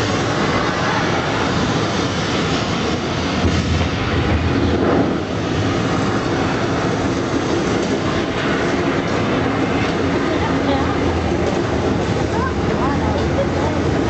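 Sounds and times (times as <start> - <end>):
tram rumbling on track: 0.0 - 14.0.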